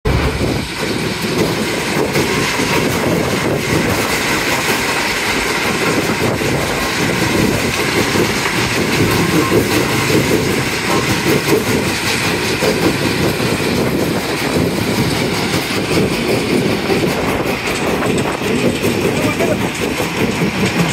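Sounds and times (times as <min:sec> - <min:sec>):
rattle of rock: 0:00.1 - 0:20.9
rock crushing machinery din: 0:00.1 - 0:20.9.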